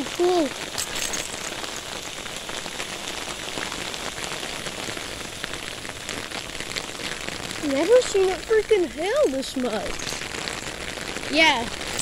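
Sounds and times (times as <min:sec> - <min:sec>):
hailstones ticking on ground: 0:00.0 - 0:12.0
rain hissing on concrete: 0:00.0 - 0:12.0.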